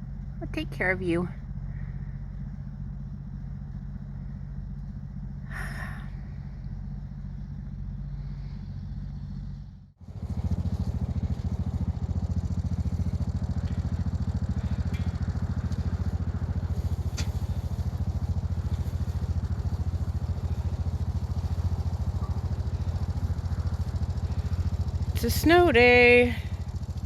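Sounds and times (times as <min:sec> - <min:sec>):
motor rumbling: 0:00.0 - 0:27.0.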